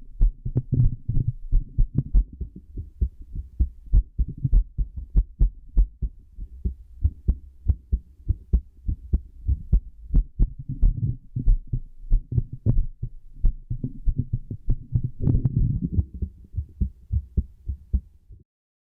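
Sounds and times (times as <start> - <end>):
heartbeat through stethoscope: 0.0 - 18.4.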